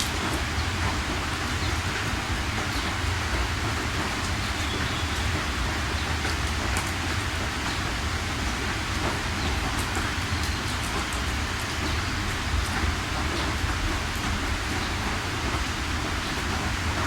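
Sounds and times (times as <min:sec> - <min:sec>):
heavy rain: 0:00.0 - 0:17.0
raindrop ticks: 0:00.0 - 0:17.0.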